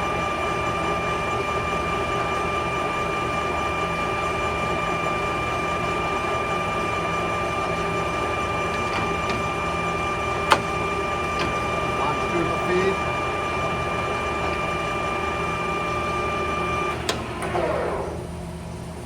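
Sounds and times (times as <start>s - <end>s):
lathe hum with high whine: 0.0s - 19.0s.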